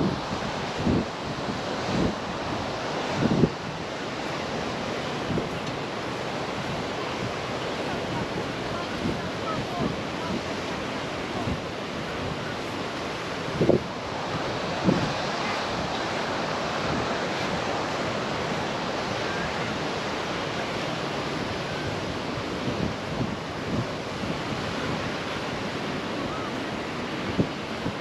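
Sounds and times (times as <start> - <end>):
ocean surf rushing: 0.0 - 28.0
wind buffeting microphone: 0.0 - 28.0.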